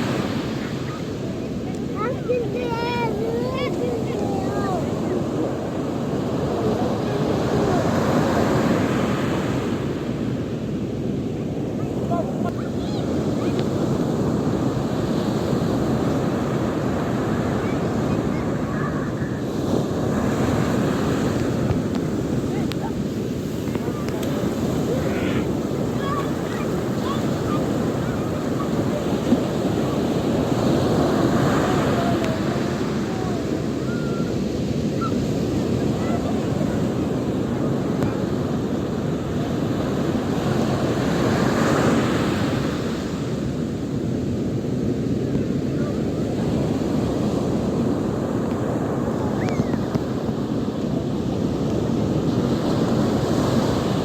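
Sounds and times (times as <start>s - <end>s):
waves breaking on a beach: 0.0s - 54.0s
wind buffeting the microphone: 0.0s - 54.0s.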